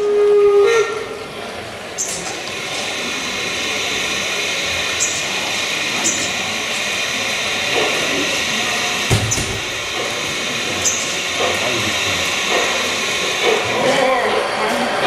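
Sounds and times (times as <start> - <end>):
faint voices: 0.0 - 15.0
model steam locomotive hiss: 0.0 - 15.0.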